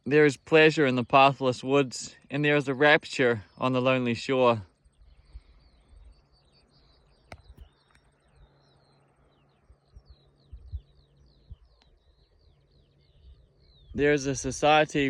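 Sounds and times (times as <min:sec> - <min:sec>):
faint low rumbling: 0:00.0 - 0:15.0
small songbirds chirping: 0:00.0 - 0:15.0.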